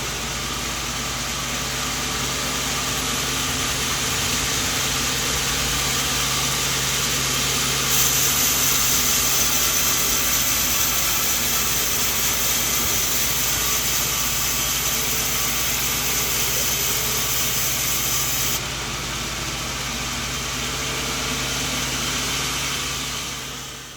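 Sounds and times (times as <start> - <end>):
band saw running: 0.0 - 23.9.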